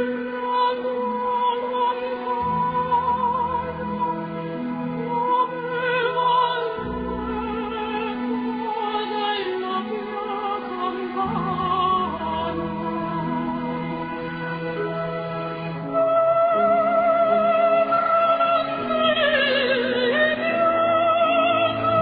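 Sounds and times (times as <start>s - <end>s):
operatic singing with vibrato: 0.0s - 22.0s.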